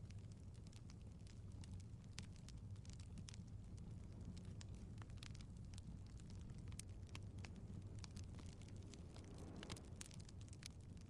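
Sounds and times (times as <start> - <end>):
low rumble of flames: 0.0 - 11.0
wood fire pops and ticks: 0.0 - 11.0.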